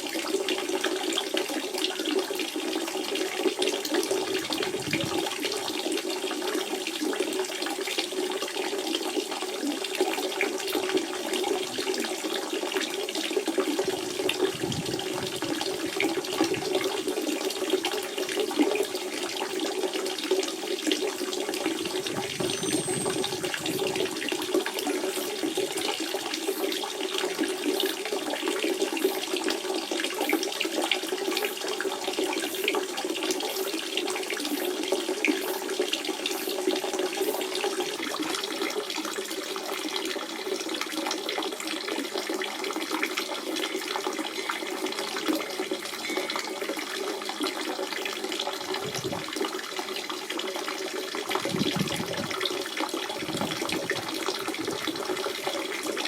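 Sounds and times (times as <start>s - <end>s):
spring water running and splashing: 0.0s - 56.0s.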